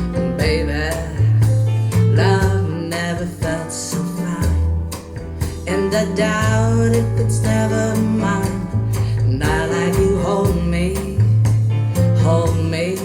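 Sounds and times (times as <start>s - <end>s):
person singing: 0.0s - 4.7s, 5.6s - 13.0s
guitar: 0.0s - 13.0s.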